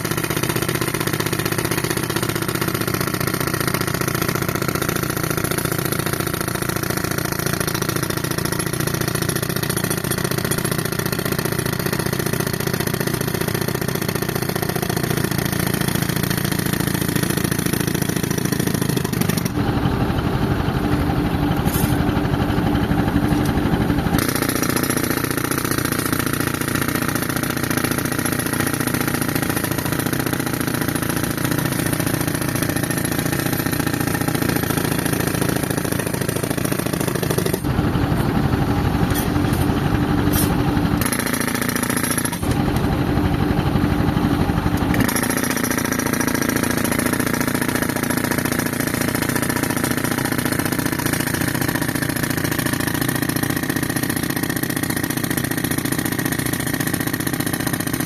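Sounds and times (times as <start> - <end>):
tractor engine driving compressor: 0.0 - 58.0.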